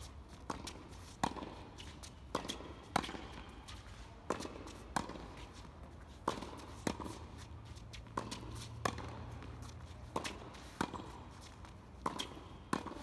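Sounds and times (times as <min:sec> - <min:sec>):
tennis balls bouncing on court: 0:00.0 - 0:13.0
tennis balls struck by rackets: 0:00.0 - 0:13.0.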